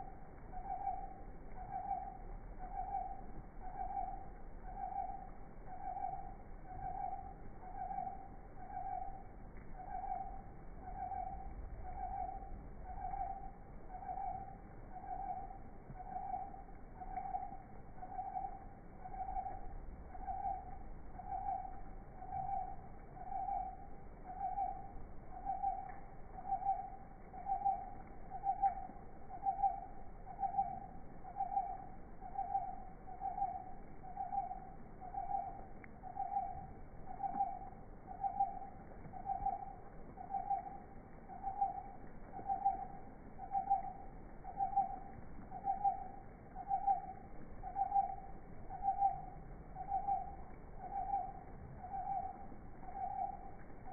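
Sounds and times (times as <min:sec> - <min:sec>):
small owl hooting: 0:00.0 - 0:53.9.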